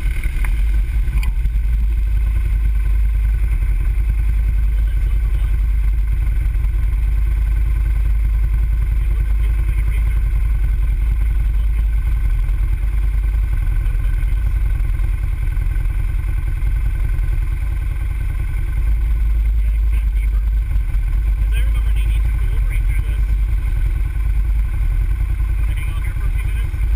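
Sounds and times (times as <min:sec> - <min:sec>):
quad engine idling: 0:00.0 - 0:26.9.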